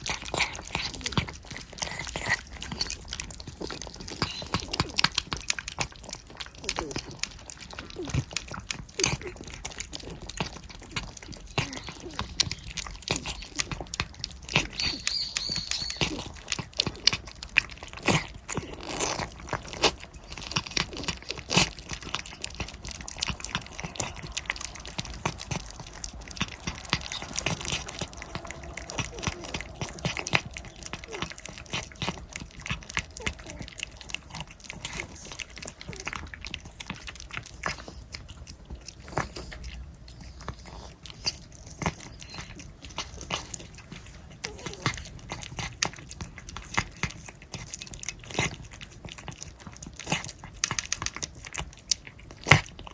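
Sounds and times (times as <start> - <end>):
cats licking and chewing: 0.0 - 52.9.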